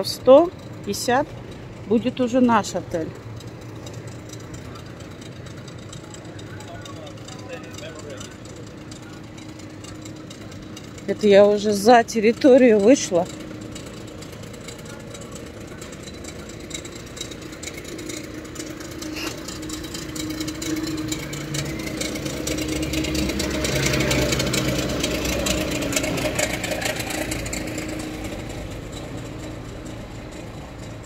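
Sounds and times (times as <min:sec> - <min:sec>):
vehicle engine running at low speed: 0:00.0 - 0:31.0.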